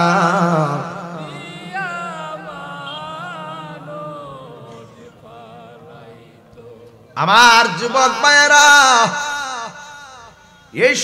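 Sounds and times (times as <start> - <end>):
man chanting through loudspeaker: 0.0 - 11.0.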